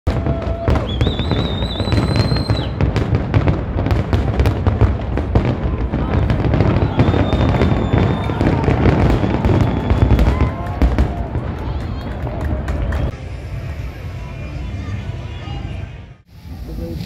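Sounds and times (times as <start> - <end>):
fireworks crackling: 0.1 - 17.0.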